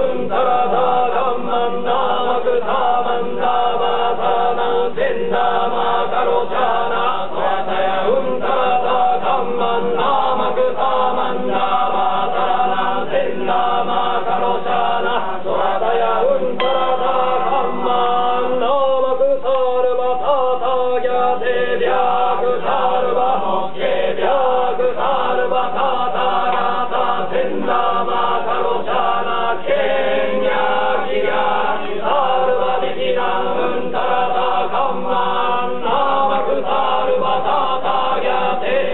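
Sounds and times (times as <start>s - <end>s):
men chanting in unison: 0.0s - 38.9s.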